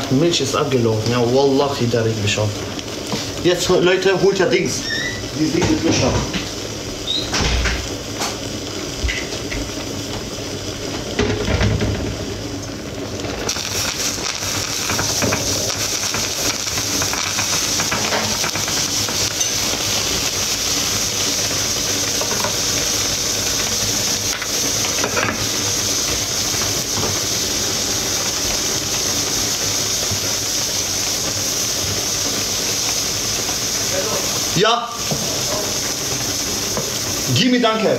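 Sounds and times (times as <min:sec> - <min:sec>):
steady hiss: 0:00.0 - 0:37.9.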